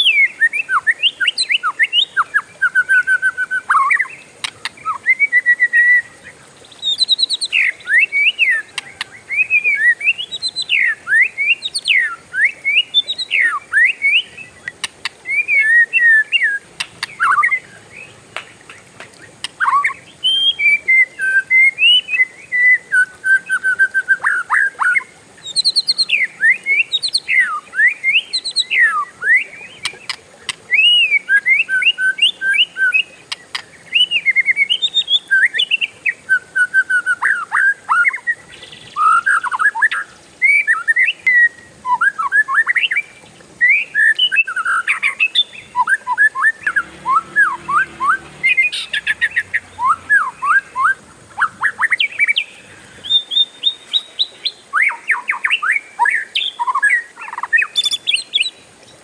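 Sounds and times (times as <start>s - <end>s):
bird singing whistled notes: 0.0s - 14.7s, 15.3s - 18.1s, 19.6s - 30.1s, 30.7s - 59.0s.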